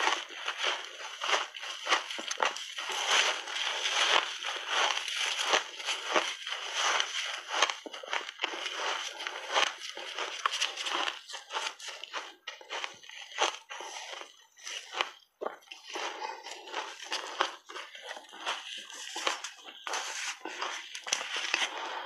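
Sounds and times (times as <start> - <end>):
person chewing crunchy ice: 0.0 - 22.0.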